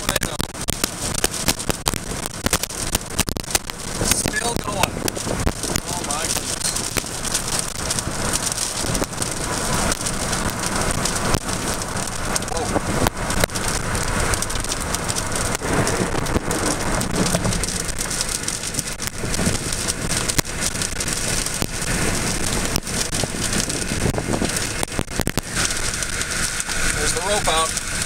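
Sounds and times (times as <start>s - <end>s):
rain rushing: 0.0s - 28.0s
raindrops tapping: 0.0s - 28.0s.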